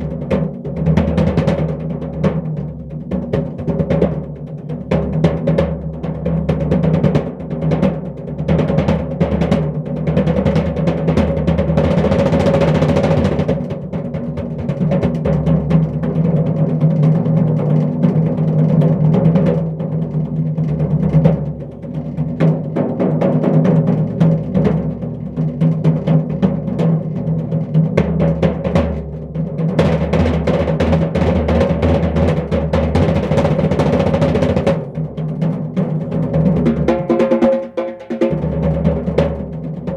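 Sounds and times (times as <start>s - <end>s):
hand drum roll on toms and snare: 0.0s - 39.9s.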